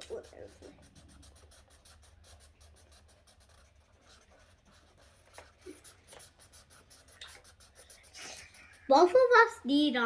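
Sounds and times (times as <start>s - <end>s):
markers scratching on paper: 0.0s - 10.0s.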